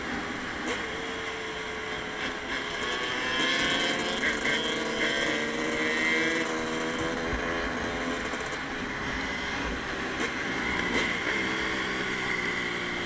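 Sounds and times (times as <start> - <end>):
dirt bike engine revving: 2.2 - 12.7.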